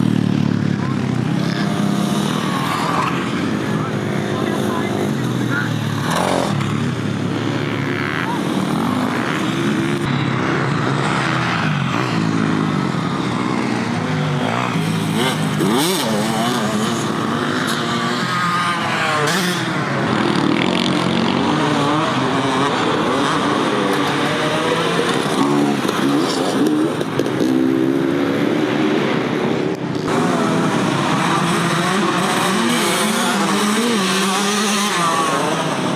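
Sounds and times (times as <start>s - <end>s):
motocross bike engines revving: 0.0s - 35.9s.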